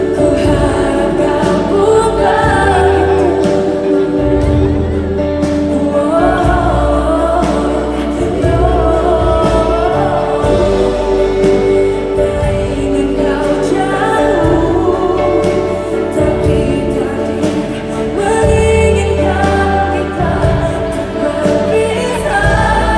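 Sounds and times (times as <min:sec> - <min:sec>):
person singing pop ballad: 0:00.0 - 0:22.9.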